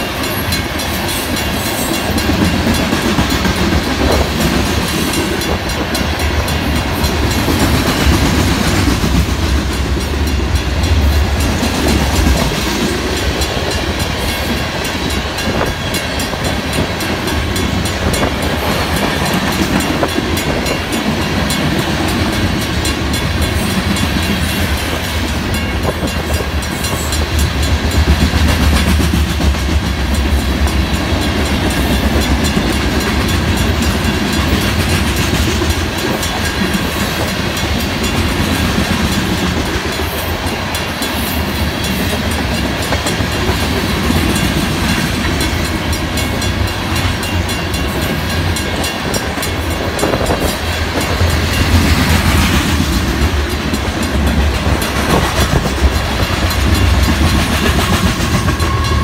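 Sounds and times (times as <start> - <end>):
crossing bell ringing: 0.0 - 59.0
train wheels rumbling and clacking: 0.0 - 59.0.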